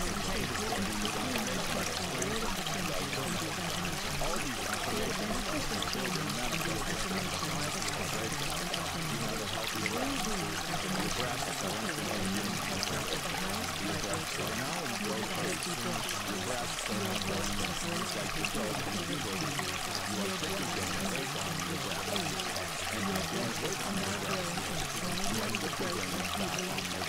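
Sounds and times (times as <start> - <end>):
faint low drone: 0.0 - 27.0
stream trickling and gurgling: 0.0 - 27.0.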